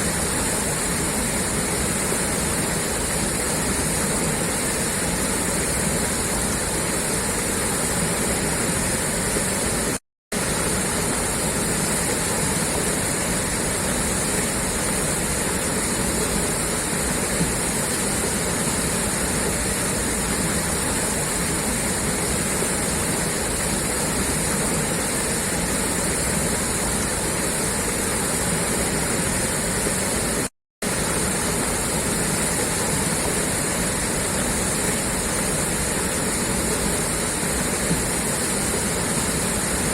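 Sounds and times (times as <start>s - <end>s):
water gushing from a pipe: 0.0s - 39.9s.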